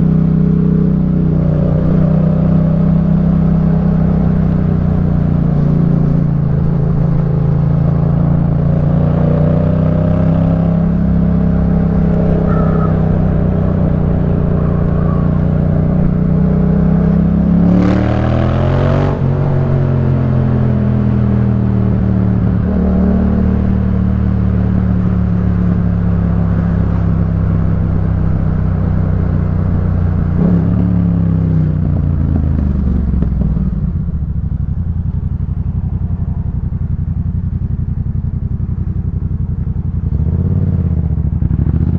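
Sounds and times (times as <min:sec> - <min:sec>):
motorcycle engine under way: 0:00.0 - 0:41.9.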